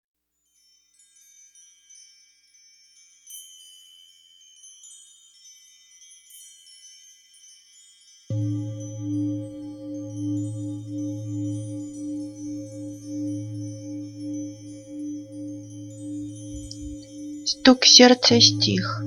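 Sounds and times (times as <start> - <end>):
wind chimes ringing: 0.4 - 19.0.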